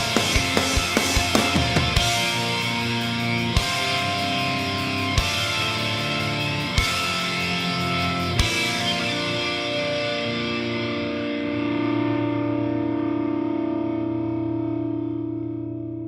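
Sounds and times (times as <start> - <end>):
distorted electric guitar chord: 0.0 - 16.0.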